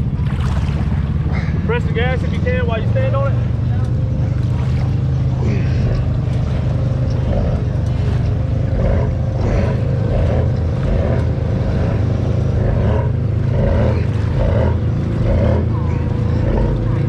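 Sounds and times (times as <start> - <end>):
atv engine running: 0.0 - 17.0
water sloshing and churning: 0.0 - 17.0.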